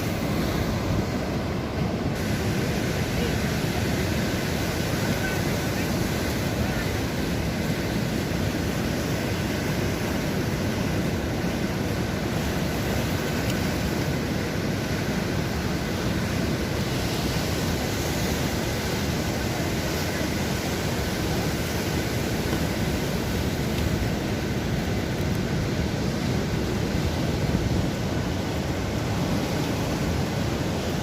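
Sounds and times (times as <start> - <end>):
sea surf rushing: 0.0 - 31.0.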